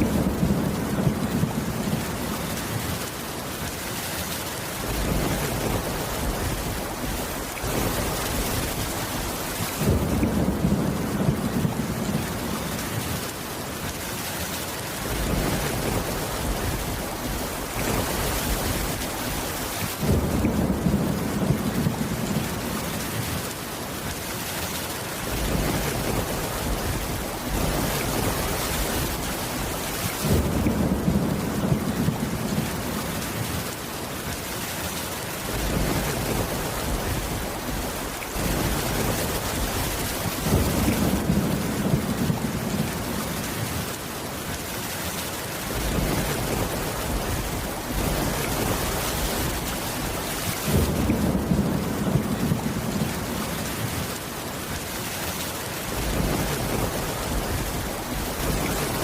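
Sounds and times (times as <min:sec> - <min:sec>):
low rolls of thunder: 0:00.0 - 0:03.3, 0:04.8 - 0:13.4, 0:15.0 - 0:23.6, 0:25.2 - 0:33.8, 0:35.4 - 0:44.0, 0:45.6 - 0:54.2, 0:55.8 - 0:59.0
heavy rain: 0:00.0 - 0:59.0.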